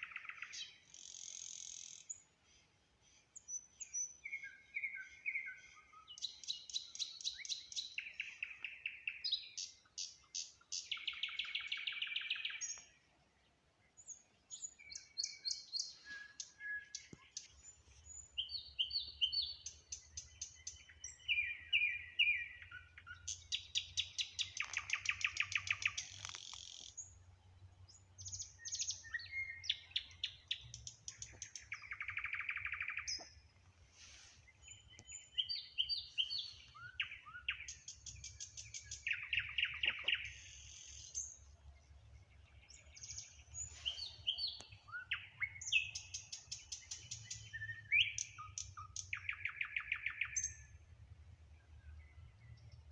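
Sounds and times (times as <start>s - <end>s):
nightingale singing: 0.0s - 2.3s, 3.4s - 13.1s, 13.8s - 51.0s.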